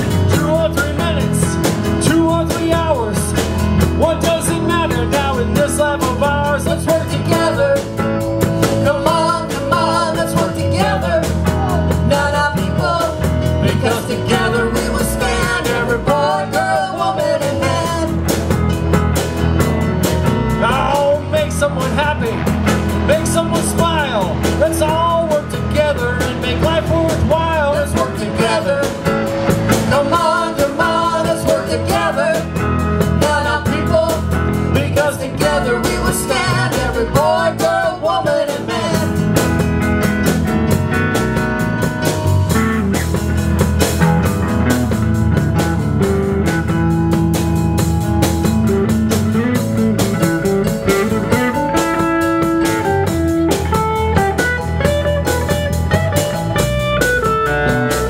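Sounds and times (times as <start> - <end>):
bending electric guitar lead: 0.0 - 58.0
live blues band playing: 0.0 - 58.0.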